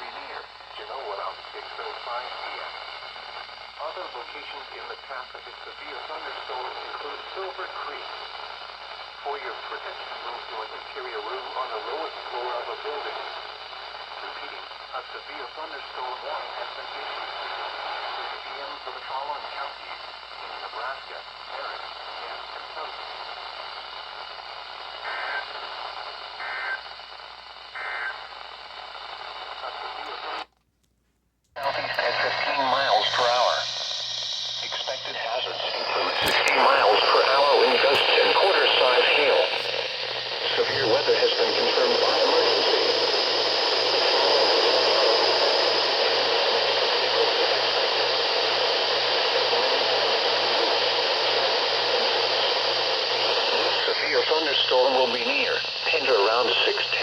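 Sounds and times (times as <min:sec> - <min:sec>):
steady radio hiss: 0:00.0 - 0:57.0.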